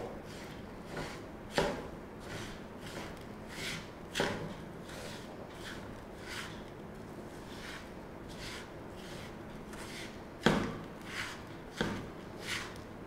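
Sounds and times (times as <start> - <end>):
spatula scraping a pan: 0.2 - 6.7, 7.3 - 10.2, 11.0 - 12.8.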